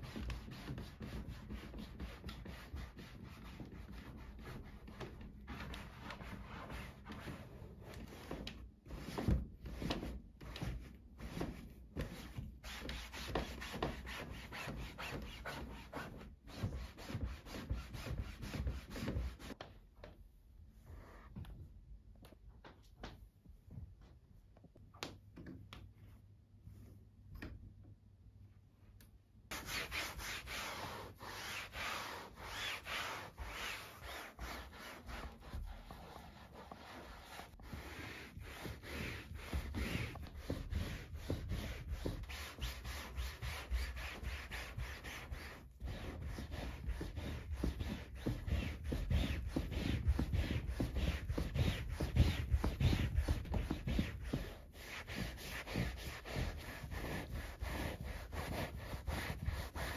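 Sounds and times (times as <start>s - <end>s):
brush scrubbing fabric: 0.0s - 19.6s, 29.5s - 59.9s.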